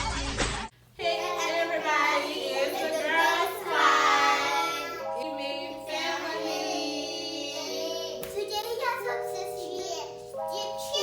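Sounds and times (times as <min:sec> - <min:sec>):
child singing: 0:01.0 - 0:11.0
held chords: 0:01.0 - 0:11.0.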